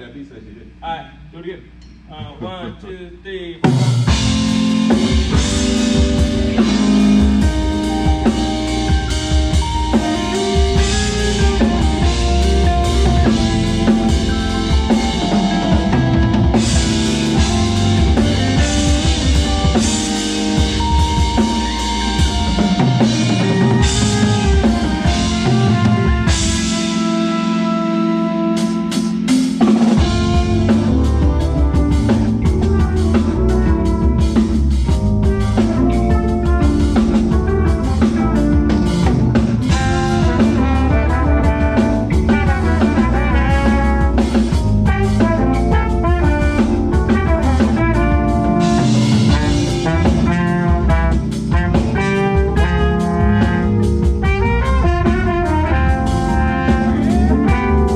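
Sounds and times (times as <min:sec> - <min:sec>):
live band playing up-tempo: 0:03.6 - 0:57.9.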